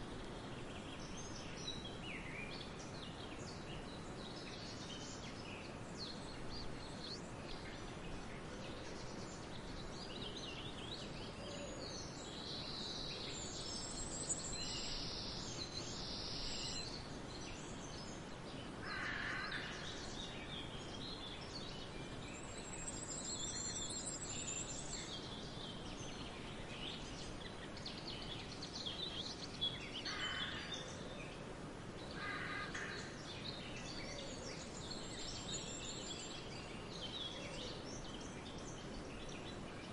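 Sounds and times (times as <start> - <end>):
wind through a field: 0.0 - 39.9.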